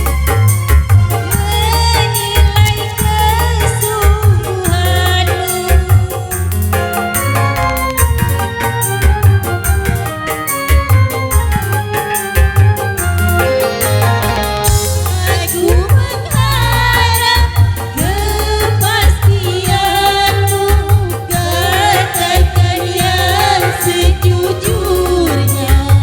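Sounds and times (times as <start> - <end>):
ornamented melody line: 0.0 - 26.0
pounding bass beat: 0.0 - 26.0.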